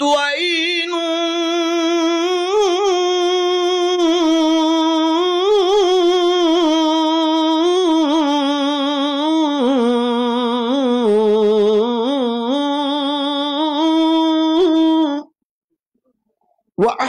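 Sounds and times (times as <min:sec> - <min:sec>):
person chanting unaccompanied: 0:00.0 - 0:15.3.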